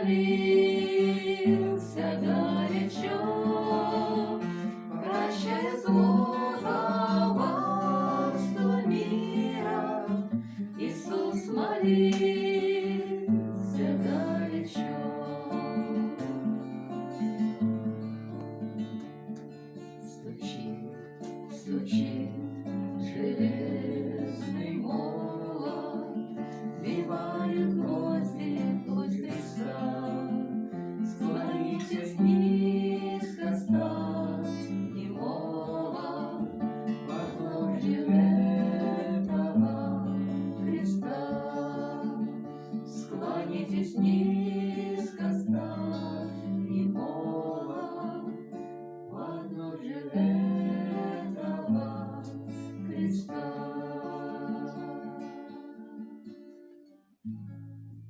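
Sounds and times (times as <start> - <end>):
acoustic guitar strumming: 0.0 - 49.4.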